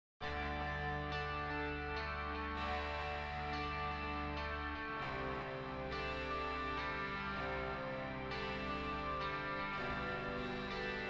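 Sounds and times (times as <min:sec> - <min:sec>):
intro music with held chords: 0:00.3 - 0:11.0.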